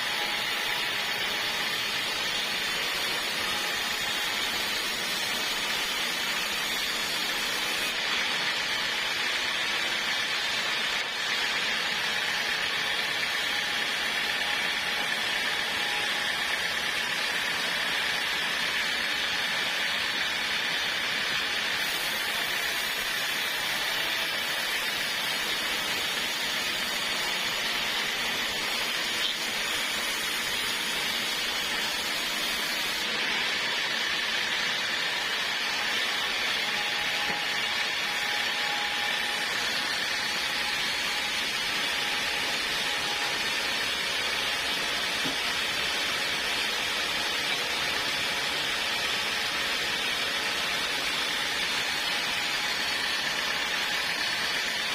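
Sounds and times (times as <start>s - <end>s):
sawmill saw running: 0.0s - 54.9s.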